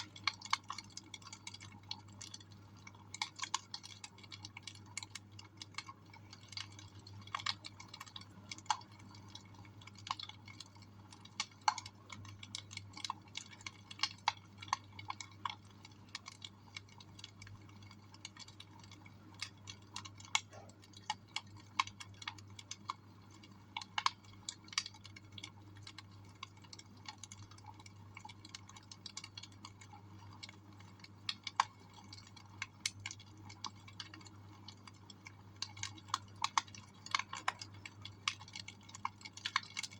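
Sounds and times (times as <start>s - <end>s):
low steady hum: 0.0s - 39.9s
wood fire crackling: 0.0s - 39.9s.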